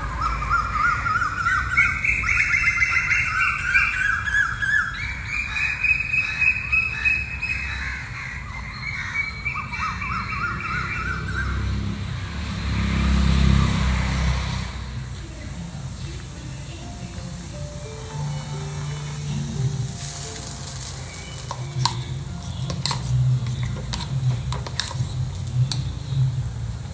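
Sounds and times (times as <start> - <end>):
small birds chirping: 0.0 - 14.4, 15.3 - 26.9.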